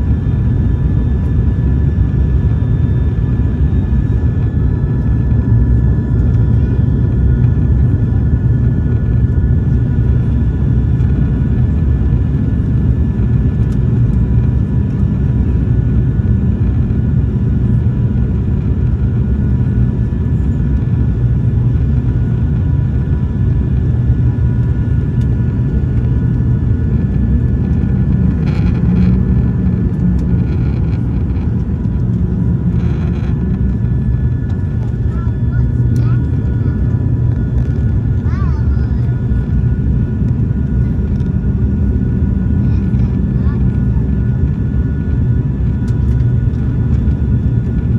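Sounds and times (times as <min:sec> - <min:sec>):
turboprop engines droning: 0:00.0 - 0:47.9.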